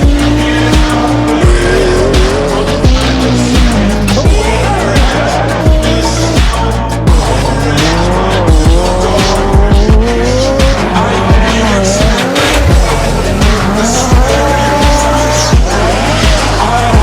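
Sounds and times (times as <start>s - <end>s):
music with steady drum beat: 0.0s - 17.0s
rally car engines revving: 0.0s - 17.0s.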